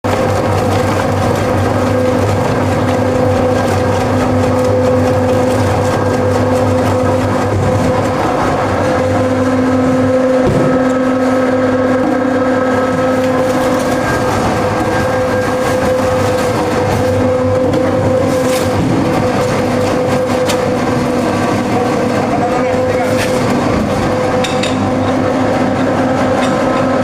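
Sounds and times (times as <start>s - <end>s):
machine humming and rattling: 0.0s - 27.0s.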